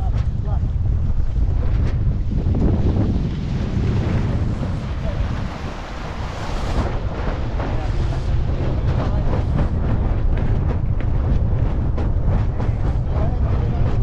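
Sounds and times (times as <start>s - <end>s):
water splashing along boat hull: 0.0s - 14.0s
wind buffeting microphone: 0.0s - 14.0s.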